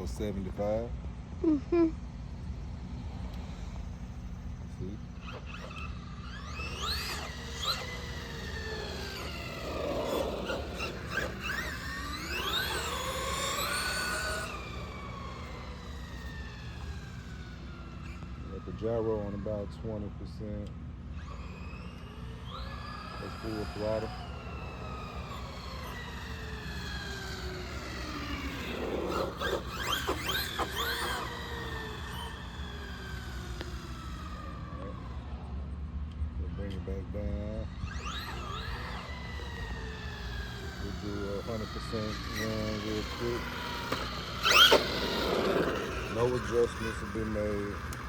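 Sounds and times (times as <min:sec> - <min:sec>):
rc truck motor whining: 0:00.0 - 0:48.0.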